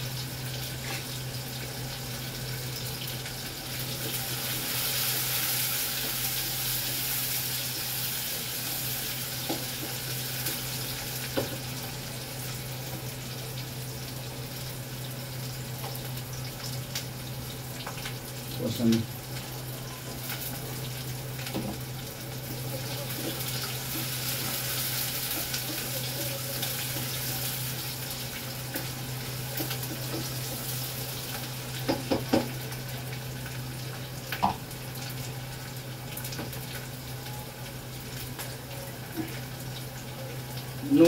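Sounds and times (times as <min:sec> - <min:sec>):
onions sizzling in oil: 0:00.0 - 0:41.0.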